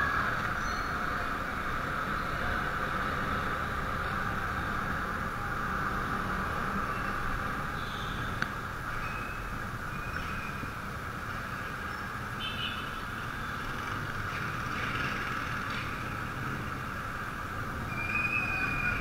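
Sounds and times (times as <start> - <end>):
motorcycle riding noise: 0.0 - 19.0.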